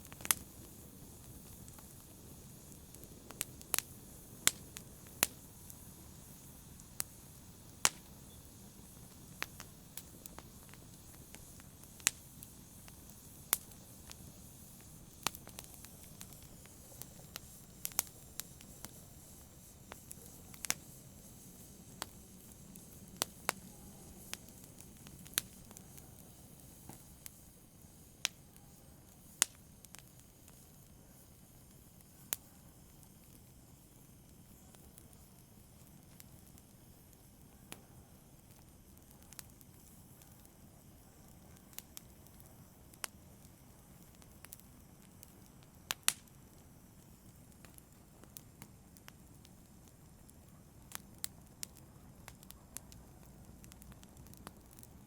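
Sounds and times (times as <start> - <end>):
low rush of burning: 0.0 - 55.0
wood fire crackling: 0.0 - 55.0.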